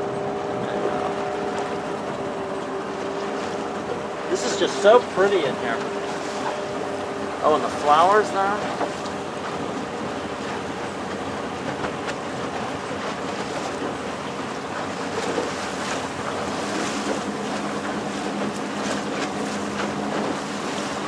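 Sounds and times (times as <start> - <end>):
boat motor humming: 0.0 - 21.0
water wash: 0.0 - 21.0.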